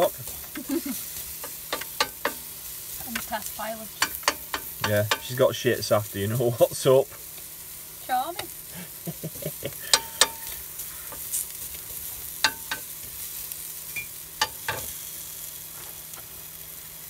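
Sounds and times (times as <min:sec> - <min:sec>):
bacon and onion sizzling in a pan: 0:00.0 - 0:17.0.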